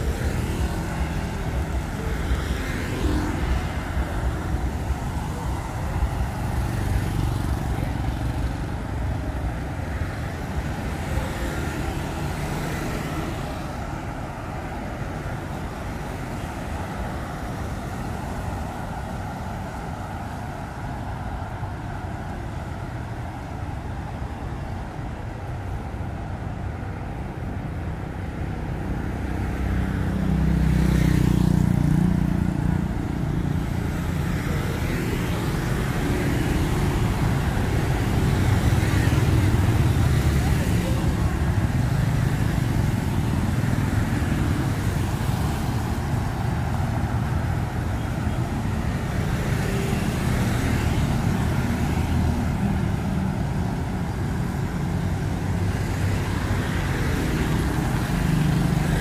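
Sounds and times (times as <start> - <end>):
motorbikes and cars passing: 0.0 - 59.0.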